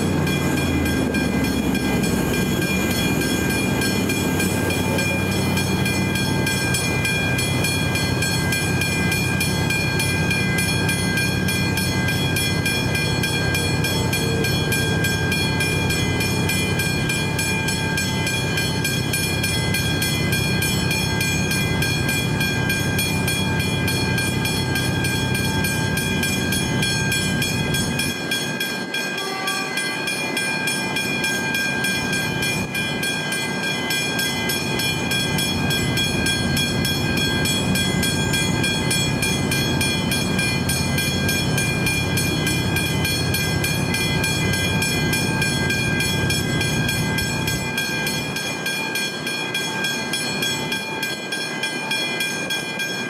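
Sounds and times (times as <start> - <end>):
level crossing warning bells: 0.0 - 53.0.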